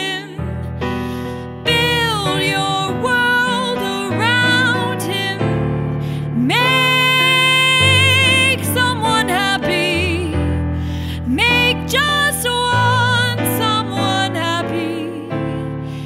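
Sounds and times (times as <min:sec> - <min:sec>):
woman singing with vibrato: 0:00.0 - 0:00.6, 0:01.6 - 0:15.7
instrumental accompaniment: 0:00.0 - 0:16.0.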